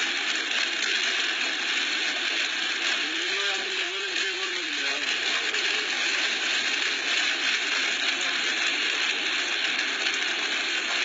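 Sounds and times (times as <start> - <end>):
hail falling: 0.0 - 11.0.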